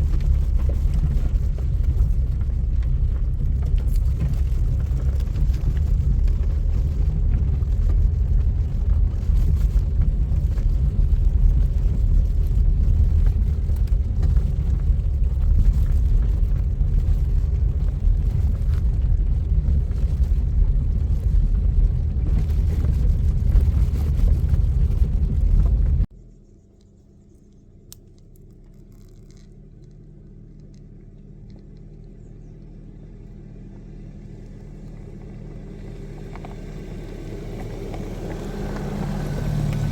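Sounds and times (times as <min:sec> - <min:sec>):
car rumbling while driving: 0:00.0 - 0:39.9
low hum: 0:00.0 - 0:39.9.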